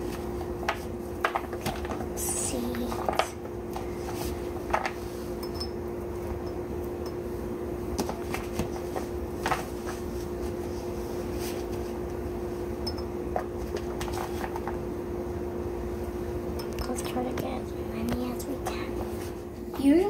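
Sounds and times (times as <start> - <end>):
kitchen appliance hum: 0.0 - 20.0.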